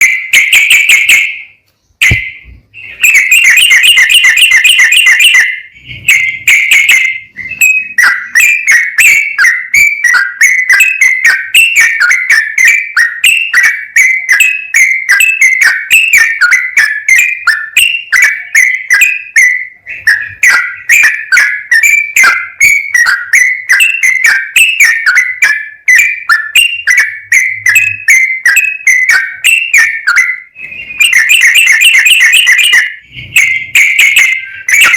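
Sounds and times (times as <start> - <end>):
bird singing whistled notes: 0.0 - 34.9.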